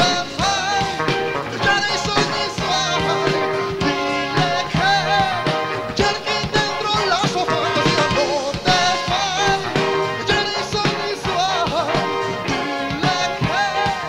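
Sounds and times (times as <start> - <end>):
drum kit beat: 0.0 - 14.0
electric guitar: 0.0 - 14.0
man singing: 0.0 - 14.0.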